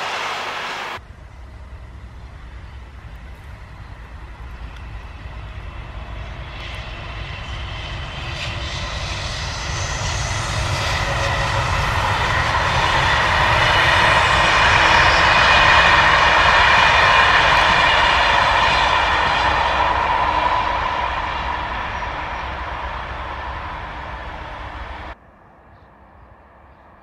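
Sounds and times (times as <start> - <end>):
train wheels rushing on rail: 0.0 - 25.2.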